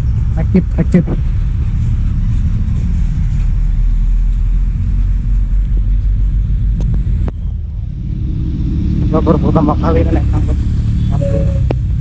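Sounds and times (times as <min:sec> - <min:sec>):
minibus engine and road rumble: 0:00.0 - 0:12.0.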